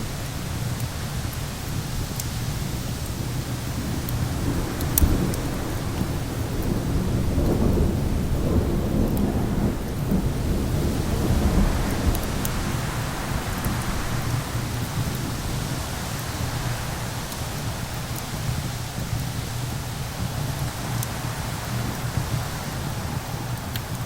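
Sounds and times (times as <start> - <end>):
fire crackling pops: 0.0 - 24.0
low rolling thunder: 0.0 - 24.0
rain and wind: 0.0 - 24.0.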